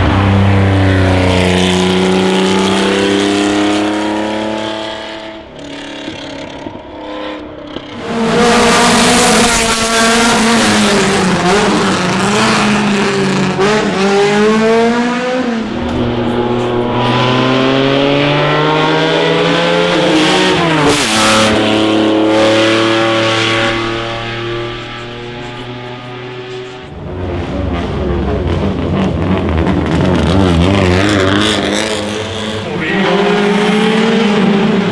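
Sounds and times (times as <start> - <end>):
racing car engine accelerating: 0.0 - 34.9.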